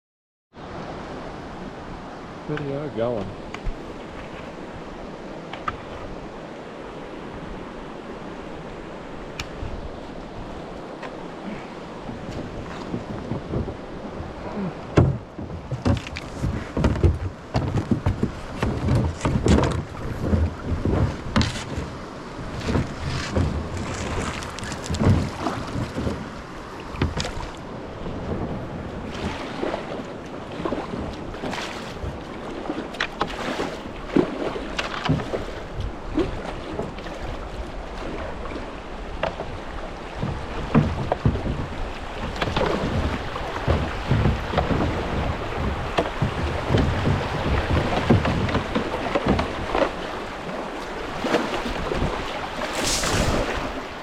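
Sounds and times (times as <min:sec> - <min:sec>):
fast-running floodwater: 0:00.5 - 0:54.0
water against boat: 0:00.5 - 0:54.0
paddle splashing water: 0:00.6 - 0:54.0.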